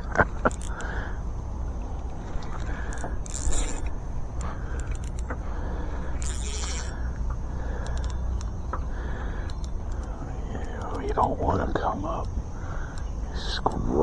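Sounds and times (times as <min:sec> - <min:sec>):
fishing reel cranking with clicks: 0:00.1 - 0:14.0.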